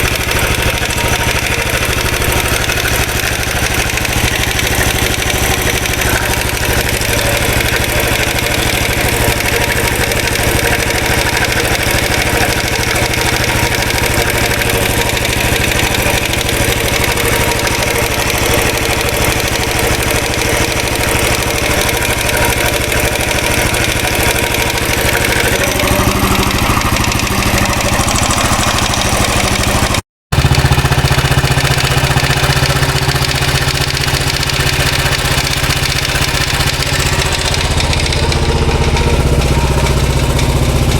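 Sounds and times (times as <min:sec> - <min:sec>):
oscillating rattle: 0:00.0 - 0:30.0, 0:30.9 - 0:40.9
motorcycle engine idling: 0:00.0 - 0:40.9.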